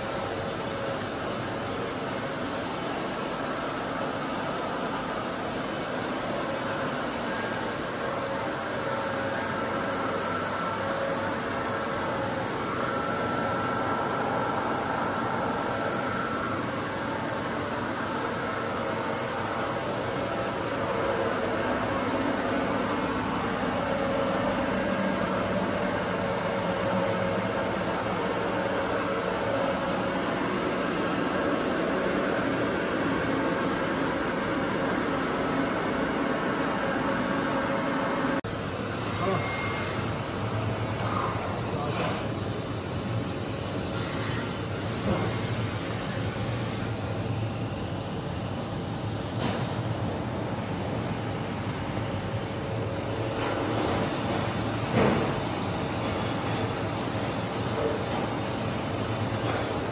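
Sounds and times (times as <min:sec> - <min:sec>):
faint machine whines: 0:00.0 - 0:59.9
machinery hum and hiss: 0:00.0 - 0:59.9.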